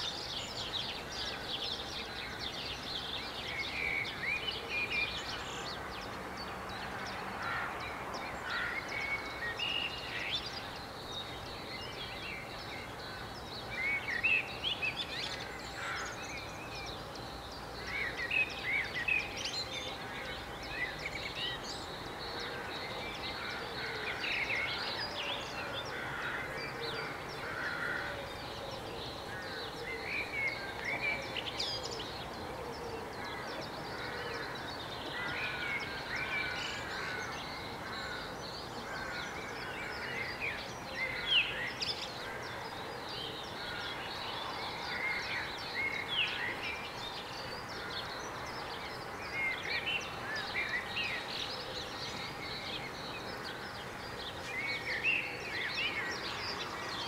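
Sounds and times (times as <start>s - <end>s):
birds chirping: 0.0s - 57.0s
outdoor background hiss: 0.0s - 57.0s.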